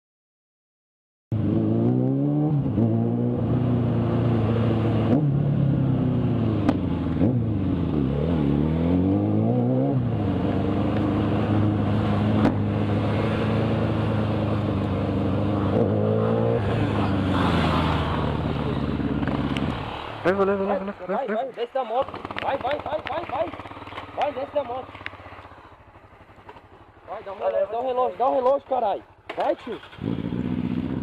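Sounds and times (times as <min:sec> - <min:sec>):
motorcycle engine running: 0:03.3 - 0:21.2, 0:21.8 - 0:31.0.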